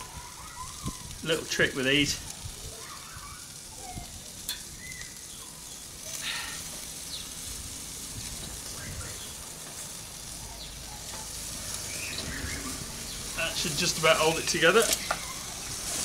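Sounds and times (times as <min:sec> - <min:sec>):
sausage sizzling on a grill: 0:00.0 - 0:16.0.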